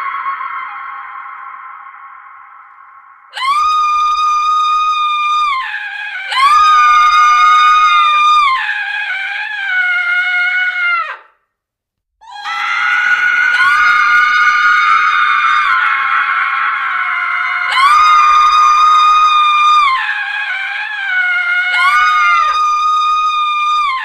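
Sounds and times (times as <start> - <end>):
women screaming: 0.0 - 2.5, 3.3 - 11.3, 12.2 - 24.0.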